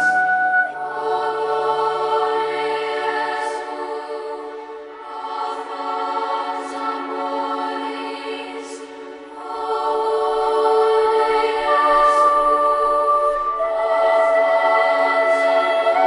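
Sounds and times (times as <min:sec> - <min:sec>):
choir-like chords: 0:00.0 - 0:16.0.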